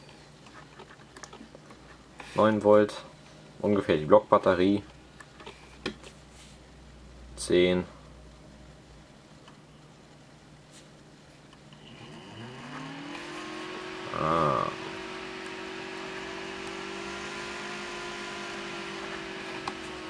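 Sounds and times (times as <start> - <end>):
cooling fan whirring: 0.0 - 20.0.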